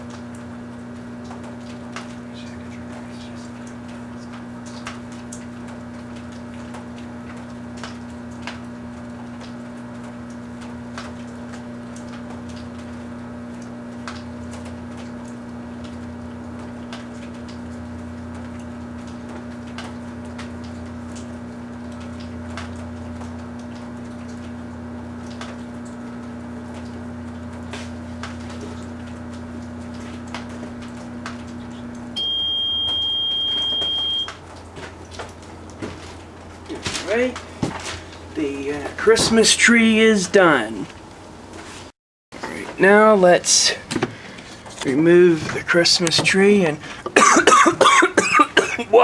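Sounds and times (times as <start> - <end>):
microwave oven humming: 0.0 - 49.0.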